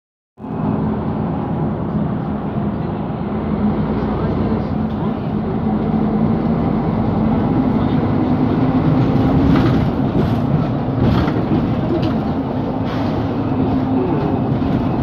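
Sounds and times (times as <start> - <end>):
diesel bus engine hum: 0.4 - 15.0.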